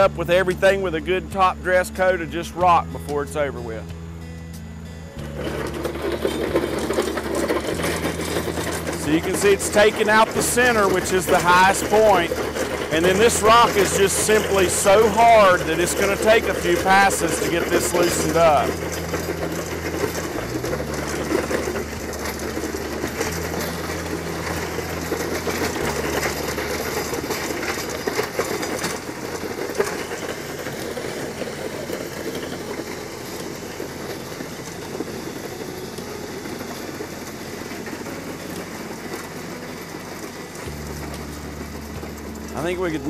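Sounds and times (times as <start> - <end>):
blade scraping gravel: 0.0 - 43.0
tractor engine running: 0.0 - 43.0
rocks clicking: 5.2 - 43.0.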